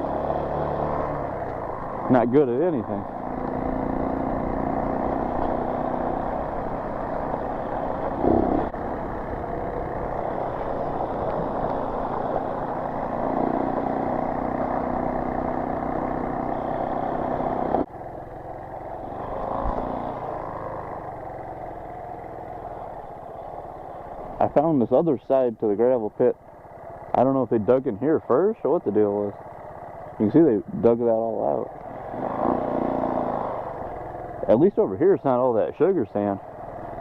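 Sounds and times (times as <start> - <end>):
motorcycle engine riding: 0.0 - 37.0.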